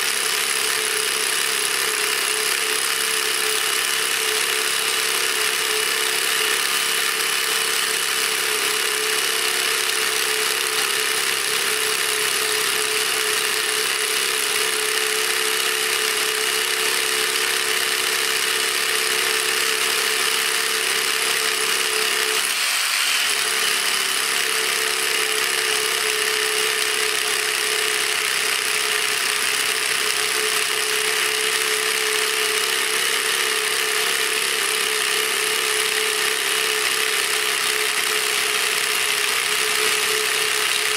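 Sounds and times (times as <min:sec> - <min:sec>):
rotary hammer drilling into concrete: 0:00.0 - 0:40.9.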